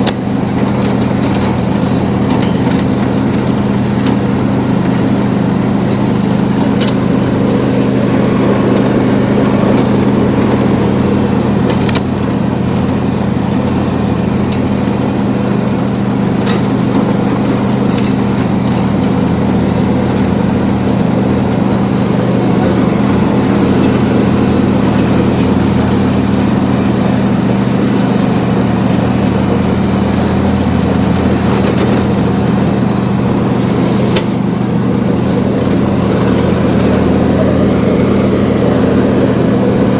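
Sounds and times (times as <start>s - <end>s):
riding lawn mower engine running: 0.0s - 39.9s.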